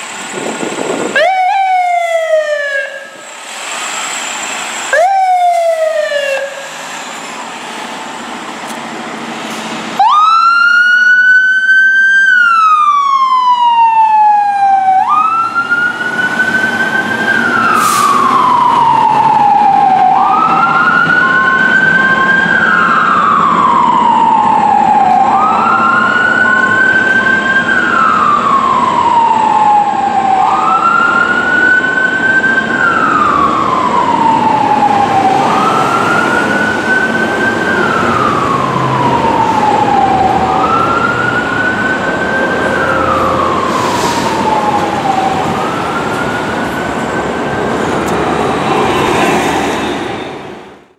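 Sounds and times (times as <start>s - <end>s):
fire engine siren wailing: 0.0s - 8.3s, 9.0s - 50.2s.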